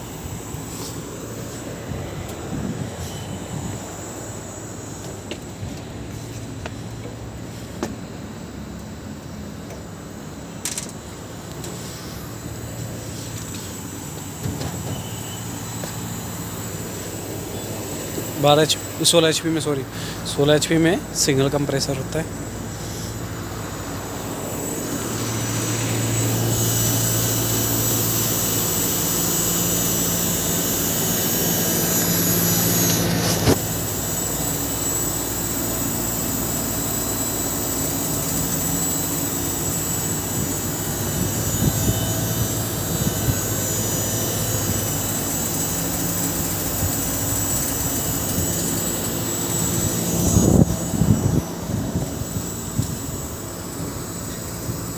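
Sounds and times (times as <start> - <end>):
air conditioner fan whoosh: 0.0 - 54.9
compressor hum: 0.0 - 54.9
faint high whine: 0.0 - 54.9.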